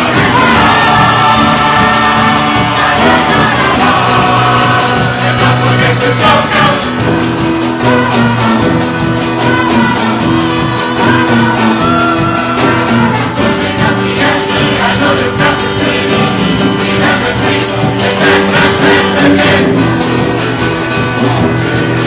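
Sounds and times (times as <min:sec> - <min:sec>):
choir singing held notes: 0:00.0 - 0:22.0
drums and percussion: 0:00.0 - 0:22.0.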